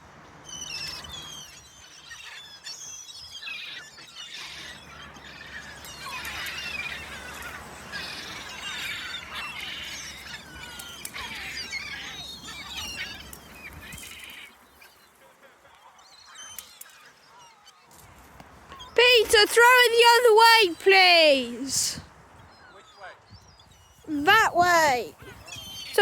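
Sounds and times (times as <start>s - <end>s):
flock of gulls calling: 0.2s - 15.2s, 15.8s - 26.0s.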